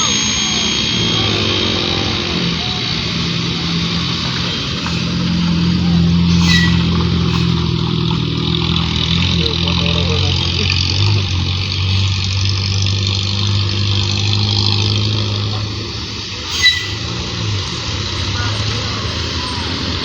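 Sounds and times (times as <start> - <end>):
large vehicle engine running: 0.0 - 20.0
tyre and road noise: 0.0 - 20.0.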